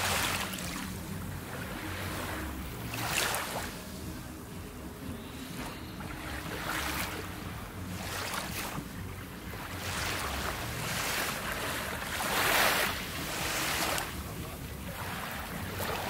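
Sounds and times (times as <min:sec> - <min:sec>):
small waves washing up beach: 0:00.0 - 0:16.0.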